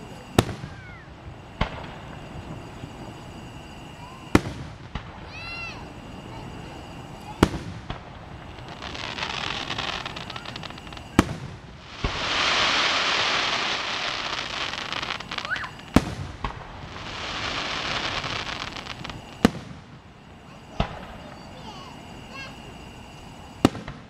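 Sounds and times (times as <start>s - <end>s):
firework crackling hiss: 0.0s - 24.0s
firework shells bursting with bangs: 0.0s - 24.0s.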